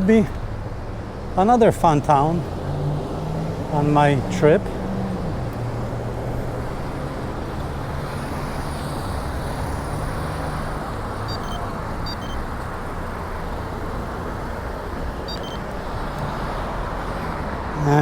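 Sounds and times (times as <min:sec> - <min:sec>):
traffic and road noise: 0:00.0 - 0:18.0.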